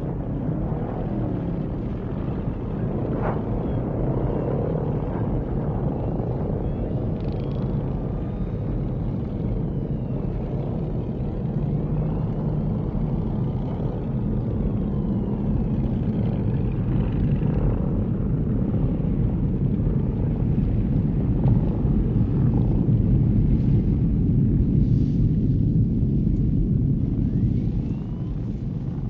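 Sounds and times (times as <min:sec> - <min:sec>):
faint engine whines: 0:00.0 - 0:29.0.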